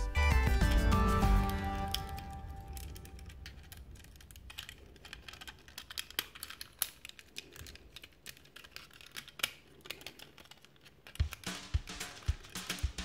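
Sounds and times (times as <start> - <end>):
plastic toy parts clicking: 0.7 - 13.0.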